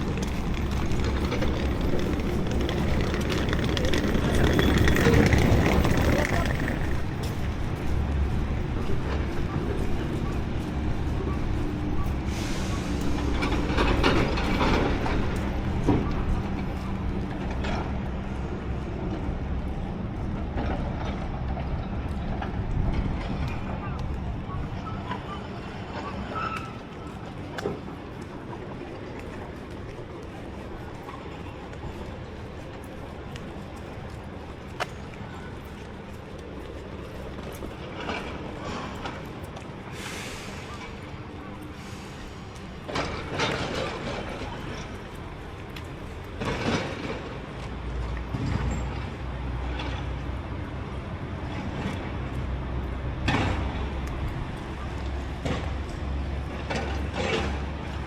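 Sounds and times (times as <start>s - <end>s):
road traffic noise: 0.0s - 58.0s
vehicle engine humming: 0.0s - 58.0s.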